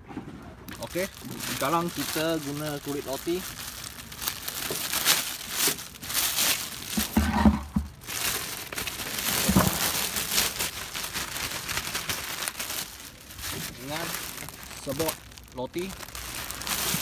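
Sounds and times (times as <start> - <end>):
plastic bag crinkling: 0.7 - 17.0.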